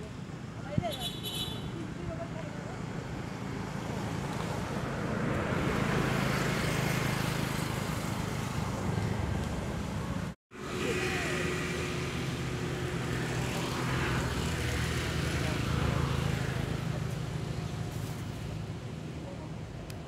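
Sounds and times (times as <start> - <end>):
rumbling hissing outdoor noise: 0.0 - 20.0.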